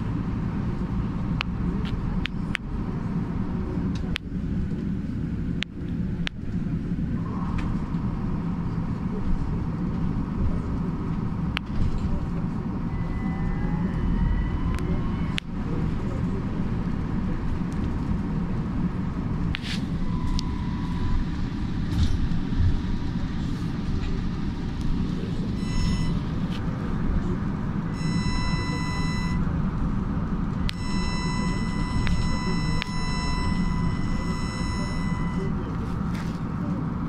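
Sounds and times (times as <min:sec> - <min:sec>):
low rumble inside trolleybus: 0:00.0 - 0:37.0.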